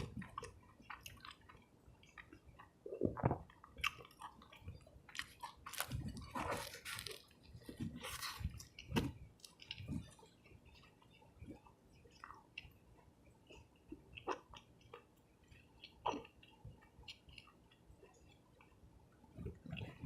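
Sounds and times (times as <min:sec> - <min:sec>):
chewing food: 0:00.0 - 0:20.0.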